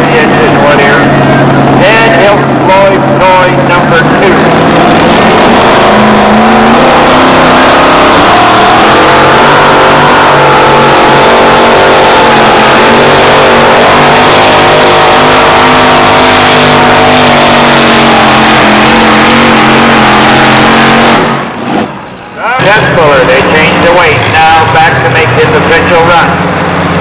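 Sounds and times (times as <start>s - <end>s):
racing truck engine at high revs: 0.0s - 27.0s.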